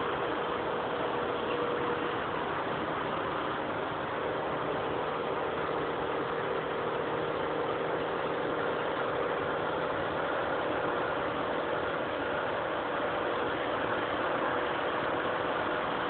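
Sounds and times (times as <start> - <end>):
car engine running: 0.0 - 16.0
road and wind noise: 0.0 - 16.0.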